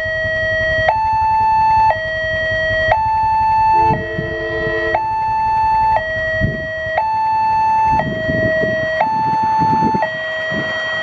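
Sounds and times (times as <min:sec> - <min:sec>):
level crossing alarm two-tone: 0:01.9 - 0:11.0.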